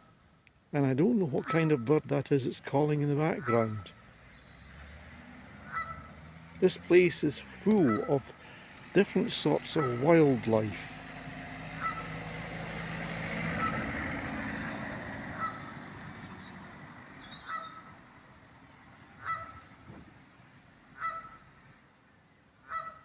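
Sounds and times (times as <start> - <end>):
passing vehicle engine: 0.8 - 21.8.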